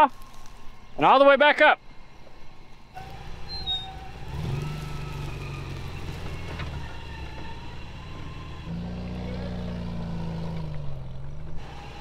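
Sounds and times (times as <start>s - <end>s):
pickup truck engine running: 1.9s - 12.0s.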